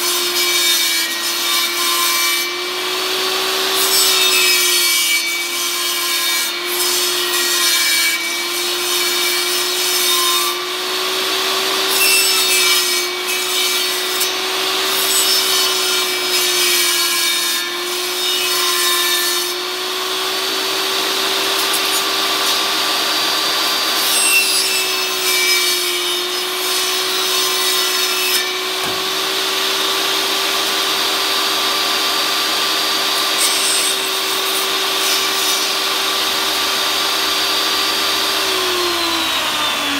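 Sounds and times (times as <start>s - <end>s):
saw blade cutting wood: 0.0s - 39.9s
table saw motor hum: 0.0s - 39.9s.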